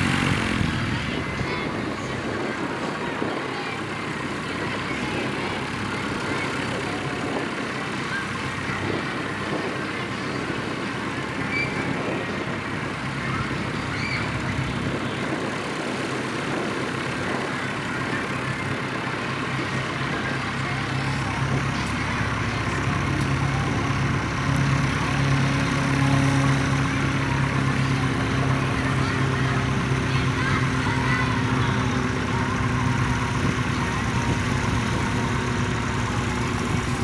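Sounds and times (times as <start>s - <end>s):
propeller plane engine hum: 0.0s - 37.0s.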